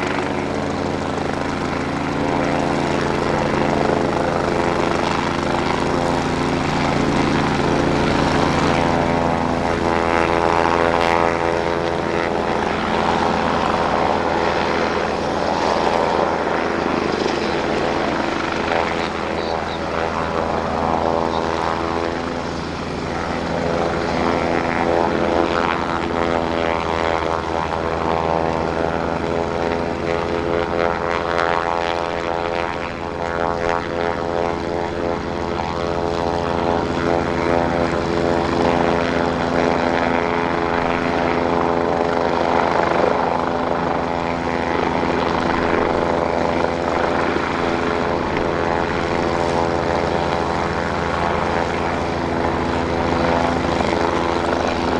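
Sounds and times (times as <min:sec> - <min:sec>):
helicopter rotor drone: 0:00.0 - 0:54.9.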